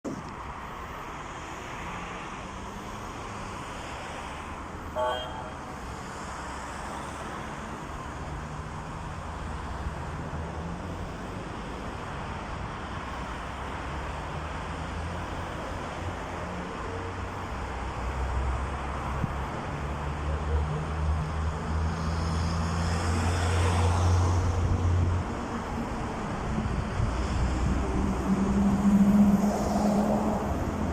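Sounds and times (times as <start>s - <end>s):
outdoor noise: 0.0s - 30.9s.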